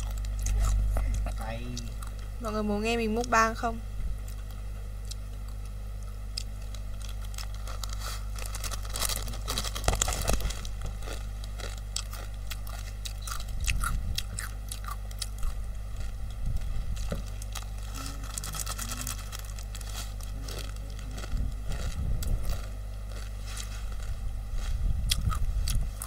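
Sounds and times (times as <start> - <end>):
crunching dry snack: 4.2 - 26.0.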